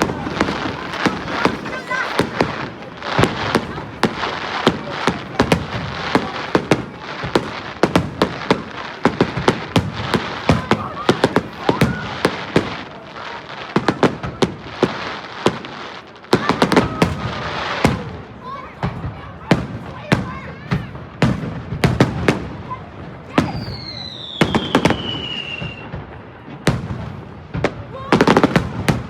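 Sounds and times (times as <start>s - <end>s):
continuous crackling: 0.0s - 23.6s
fireworks bangs and cracks: 0.0s - 29.0s.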